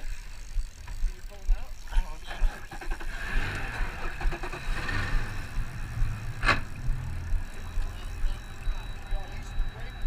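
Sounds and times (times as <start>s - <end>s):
outboard motors idling: 0.0s - 10.0s.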